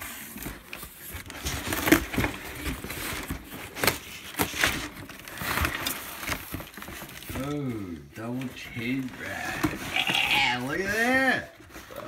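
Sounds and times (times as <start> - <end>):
packing paper rustling and crinkling: 0.0 - 12.0.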